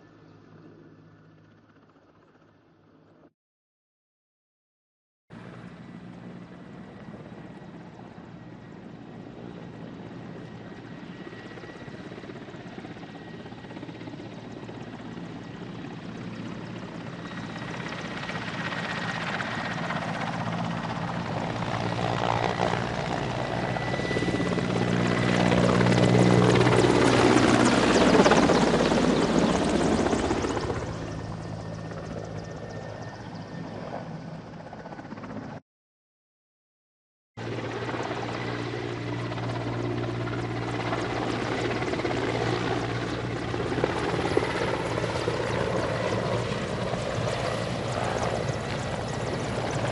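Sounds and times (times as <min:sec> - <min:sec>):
helicopter rotor noise: 0:00.4 - 0:03.2, 0:05.4 - 0:35.6, 0:37.4 - 0:49.9.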